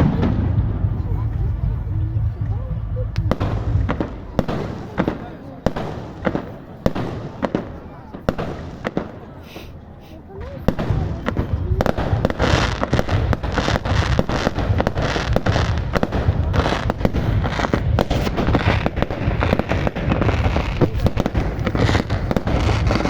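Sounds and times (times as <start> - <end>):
low rumble: 0.0 - 6.3, 10.6 - 23.0
fireworks bangs and crackling: 0.0 - 23.0.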